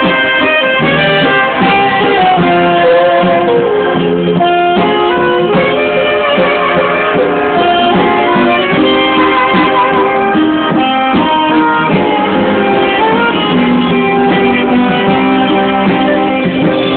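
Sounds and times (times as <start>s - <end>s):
instrumental band music: 0.0s - 16.9s.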